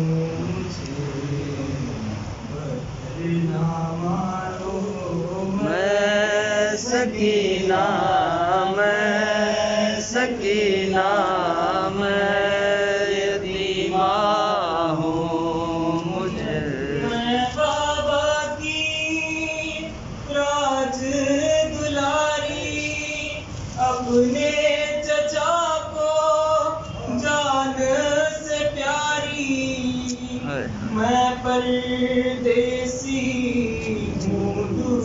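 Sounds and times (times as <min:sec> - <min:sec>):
man chanting a lament: 0:00.0 - 0:35.0.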